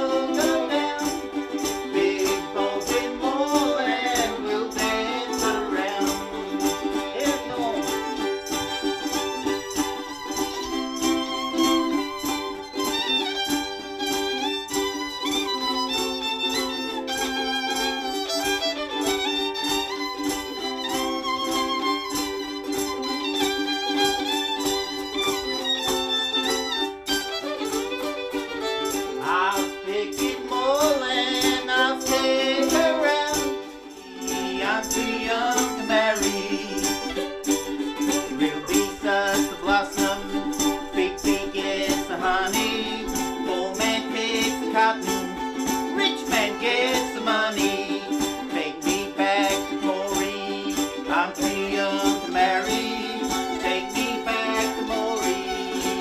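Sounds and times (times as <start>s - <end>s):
bowed fiddle: 0.0s - 56.0s
harmonica: 0.0s - 56.0s
strummed ukuleles: 0.0s - 56.0s.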